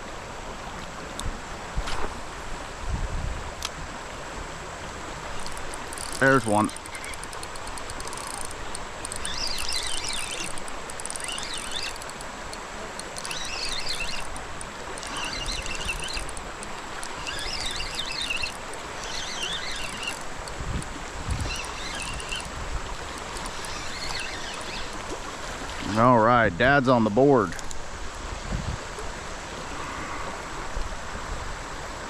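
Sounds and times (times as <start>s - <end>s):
creek water running: 0.0s - 32.0s.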